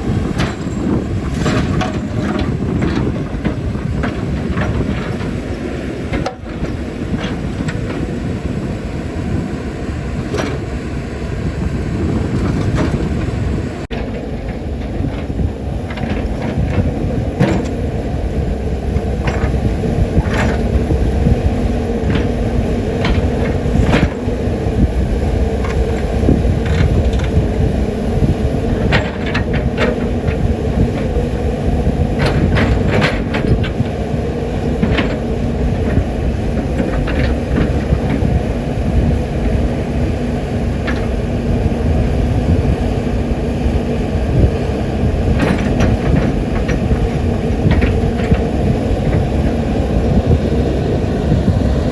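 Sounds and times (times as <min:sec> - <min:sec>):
excavator engine and hydraulics: 0:00.0 - 0:51.9.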